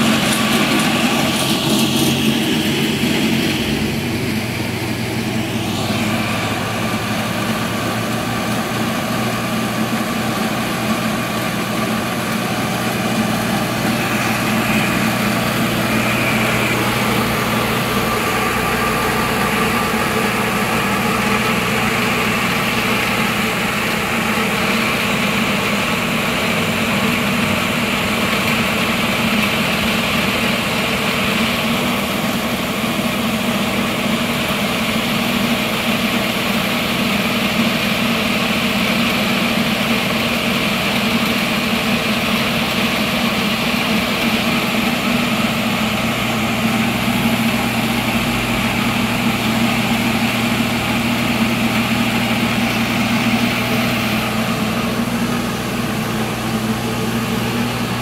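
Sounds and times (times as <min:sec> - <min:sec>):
engine idling with whine: 0:00.0 - 0:58.0.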